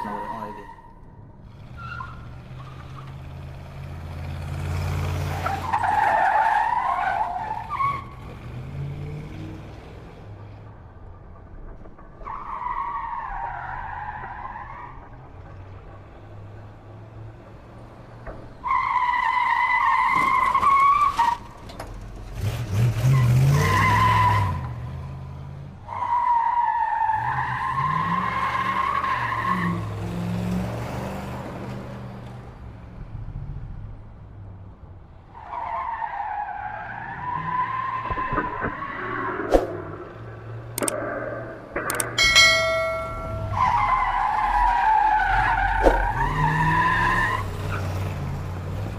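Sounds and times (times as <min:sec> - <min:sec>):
tyres skidding: 0:00.0 - 0:48.9.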